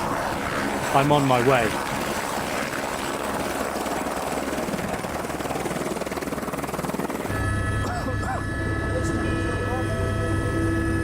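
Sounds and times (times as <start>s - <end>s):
helicopter engine noise: 0.0s - 11.0s
helicopter rotor blades beating: 0.0s - 11.0s.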